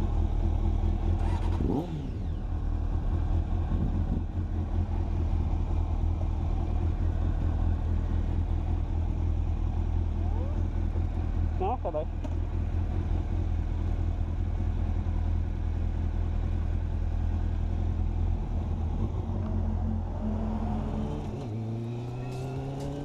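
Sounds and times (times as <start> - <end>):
vehicle engine idling and revving: 0.0 - 23.0.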